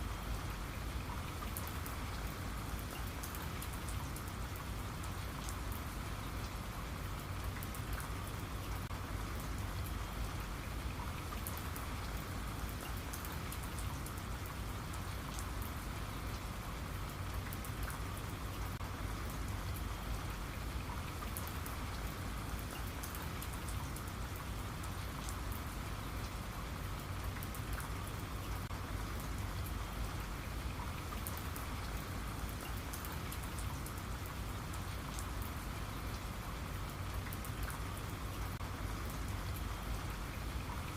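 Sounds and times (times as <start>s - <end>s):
raindrops pattering on a surface: 0.0s - 40.9s
steady rain falling: 0.0s - 40.9s.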